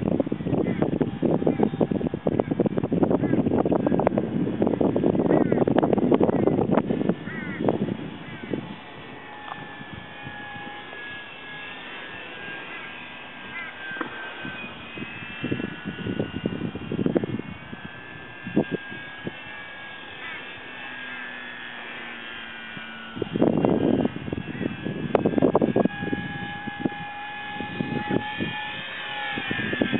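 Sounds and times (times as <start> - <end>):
model plane motor whining: 0.0 - 29.9.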